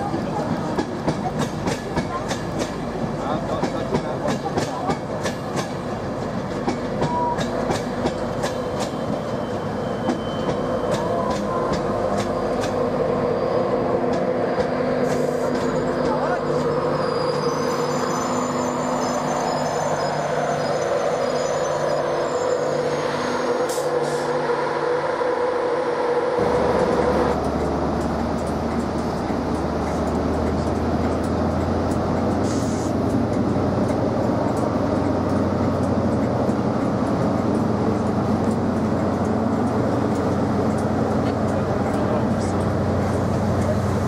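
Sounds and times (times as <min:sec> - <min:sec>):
diesel locomotive engine running: 0:00.0 - 0:44.0.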